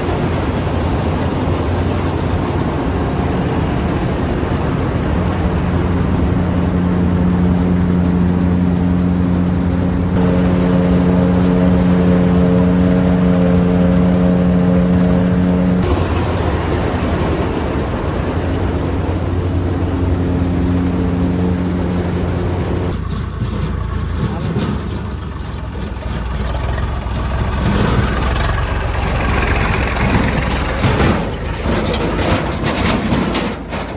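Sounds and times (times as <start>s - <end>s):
diesel engine rumbling: 0.0s - 33.9s.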